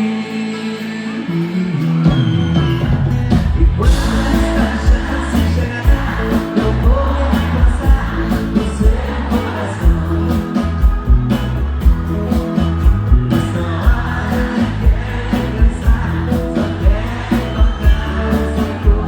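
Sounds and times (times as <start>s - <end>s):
guitar: 0.0s - 19.0s
keyboard: 0.0s - 19.0s
steady drum beat: 2.8s - 19.0s
person singing: 3.7s - 19.0s.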